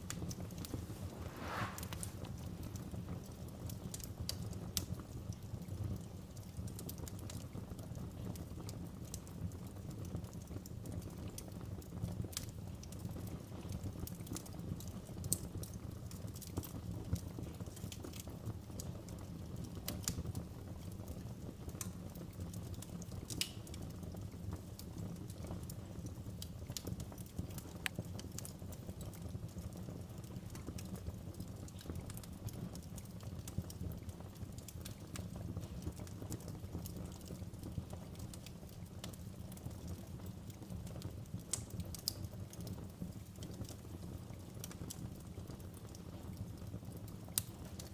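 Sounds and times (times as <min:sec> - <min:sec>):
fire pops and snaps: 0:00.0 - 0:47.9
wood fire crackling: 0:00.0 - 0:47.9.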